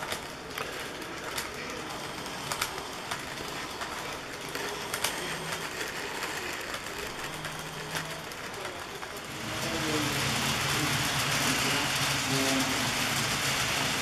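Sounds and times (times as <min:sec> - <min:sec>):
model train wagons rolling: 0:00.0 - 0:14.0
wheels clicking over rail joints: 0:00.0 - 0:14.0.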